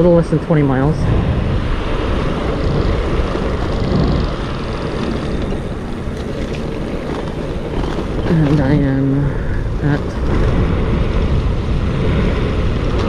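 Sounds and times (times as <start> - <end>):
road and tyre noise: 0.0 - 13.0
wind rushing over microphone: 0.0 - 13.0.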